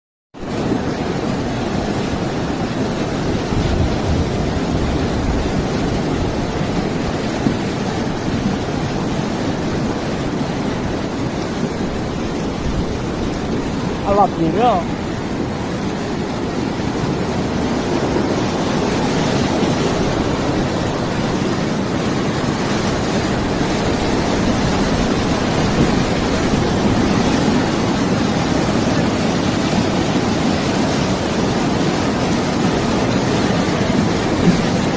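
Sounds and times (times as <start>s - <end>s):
rushing wind: 0.4s - 34.9s
surf: 0.4s - 34.9s.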